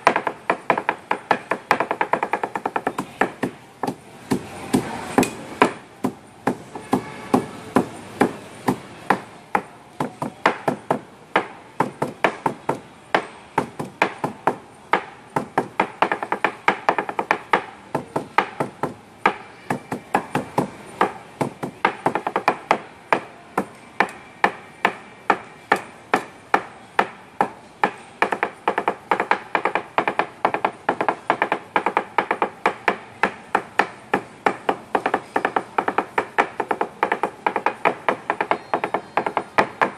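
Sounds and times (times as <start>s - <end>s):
cleaver chopping on wooden board: 0.0s - 39.9s.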